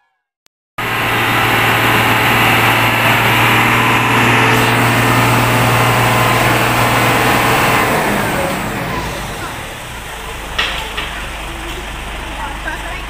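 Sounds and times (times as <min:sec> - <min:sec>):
diesel truck engine droning: 0:00.8 - 0:13.0.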